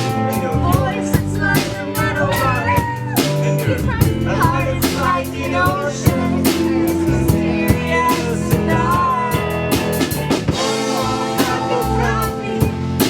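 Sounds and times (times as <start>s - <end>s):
drum kit: 0.0s - 13.0s
guitar: 0.0s - 13.0s
sliding melody line: 0.0s - 13.0s.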